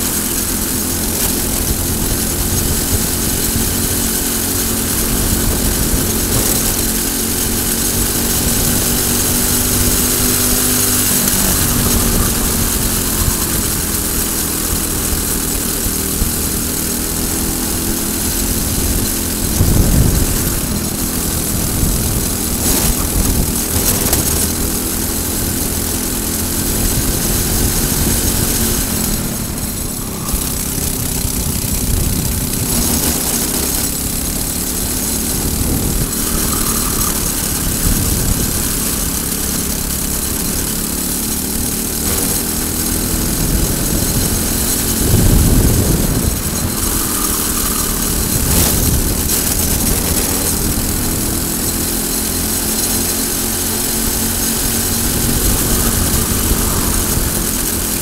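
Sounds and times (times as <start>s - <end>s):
wind noise: 0.0s - 40.9s, 41.5s - 58.0s
kart engine revving: 0.0s - 58.0s.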